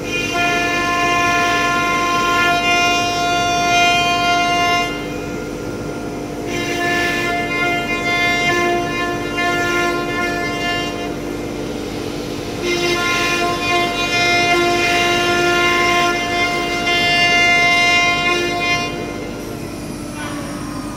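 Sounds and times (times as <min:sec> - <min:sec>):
router spindle high whine: 0:00.0 - 0:20.9.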